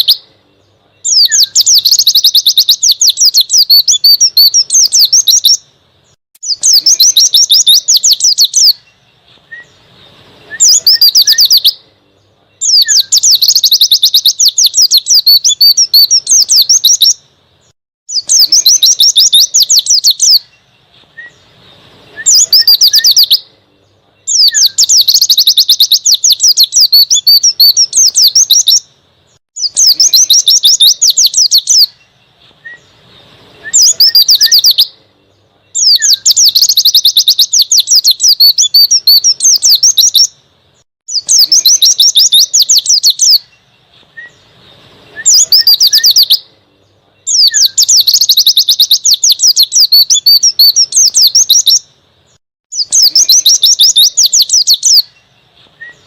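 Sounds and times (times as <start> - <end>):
bird twittering: 0.0 - 17.3, 18.1 - 23.6, 24.2 - 40.5, 41.1 - 56.0.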